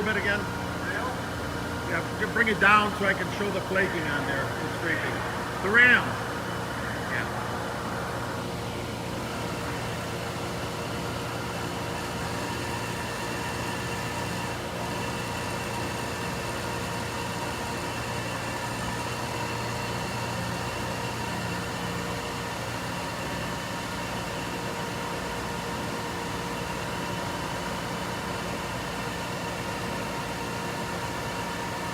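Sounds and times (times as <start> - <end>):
machine hum: 0.0 - 31.9
whining machine tones: 0.0 - 31.9.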